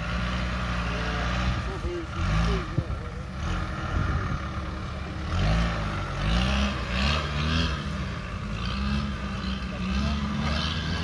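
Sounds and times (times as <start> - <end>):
diesel engine revving under load: 0.0 - 11.0.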